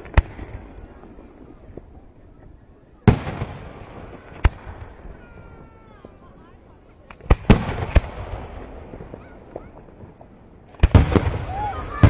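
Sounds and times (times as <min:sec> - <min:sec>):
firework sharp crack: 0:00.0 - 0:01.9, 0:03.0 - 0:06.2, 0:07.0 - 0:12.0.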